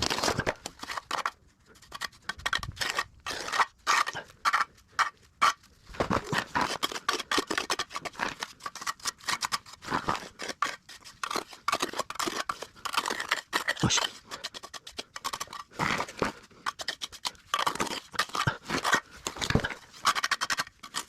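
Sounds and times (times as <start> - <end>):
trowel scraping cement mortar: 0.0 - 21.0.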